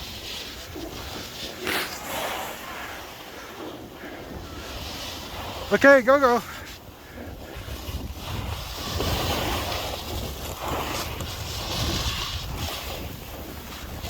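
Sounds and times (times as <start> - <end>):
skis scraping over snow: 0.0 - 14.0
wind buffeting microphone: 0.0 - 14.0.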